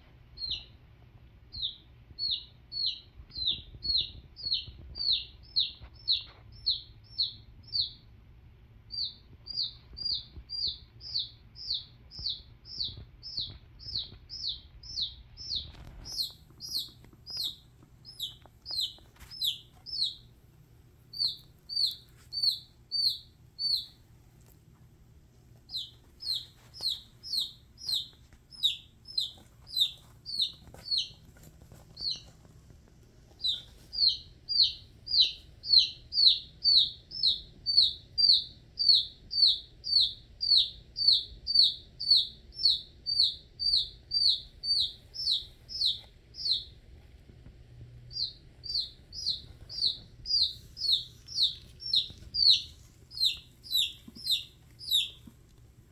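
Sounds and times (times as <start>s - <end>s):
chick peeping: 0.3s - 0.9s, 1.5s - 8.1s, 8.8s - 20.3s, 21.1s - 24.0s, 25.6s - 32.5s, 33.3s - 46.8s, 48.1s - 55.9s.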